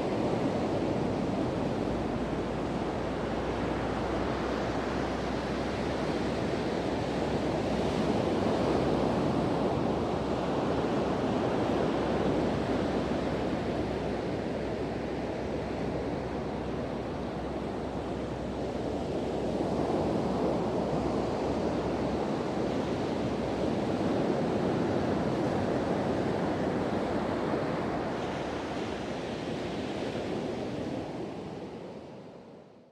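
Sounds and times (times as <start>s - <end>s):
ocean surf on beach: 0.0s - 32.6s.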